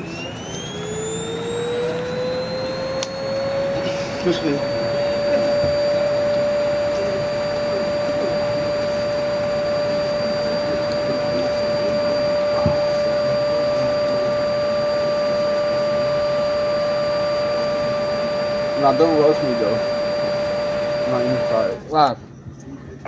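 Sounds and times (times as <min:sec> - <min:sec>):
fan motor whining: 0:00.0 - 0:23.0.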